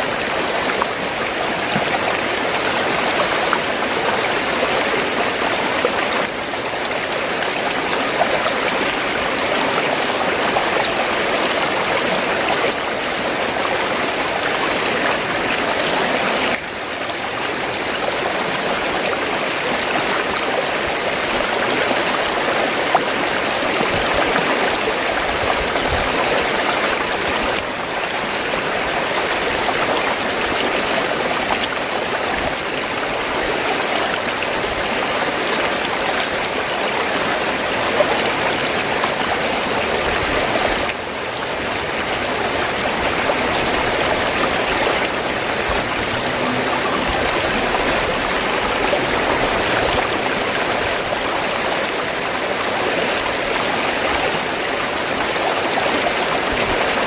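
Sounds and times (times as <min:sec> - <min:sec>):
stream gurgling and rushing: 0:00.0 - 0:57.0.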